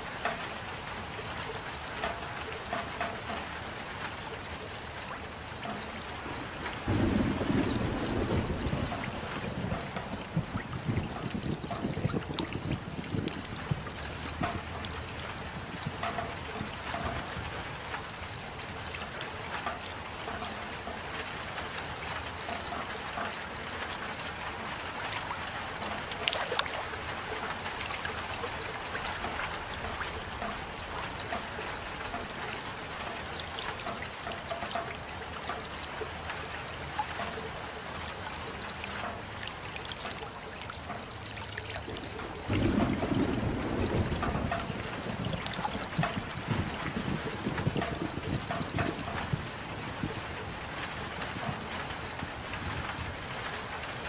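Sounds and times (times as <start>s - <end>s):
rain drops ticking: 0.0s - 54.0s.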